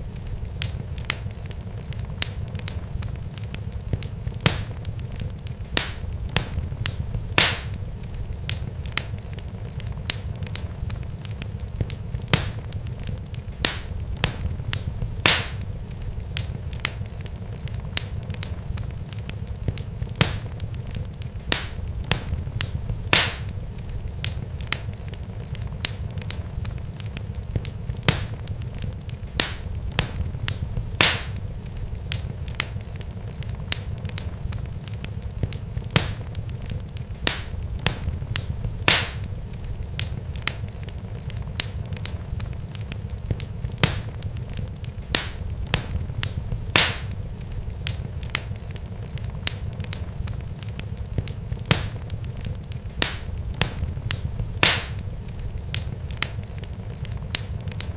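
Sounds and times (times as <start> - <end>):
steady low rumble: 0.0 - 57.3
crackling snaps and pops: 0.0 - 57.9.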